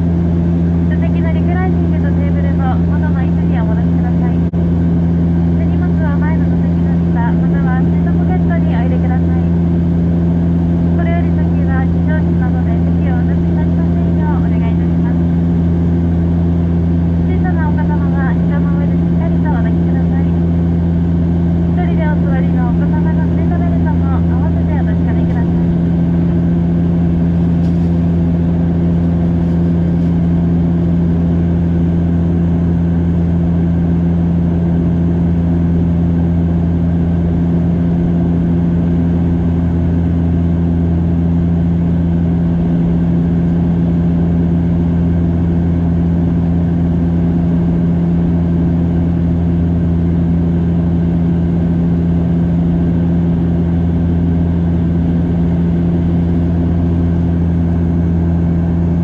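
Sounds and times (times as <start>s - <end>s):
propeller and engine hum: 0.0s - 59.0s.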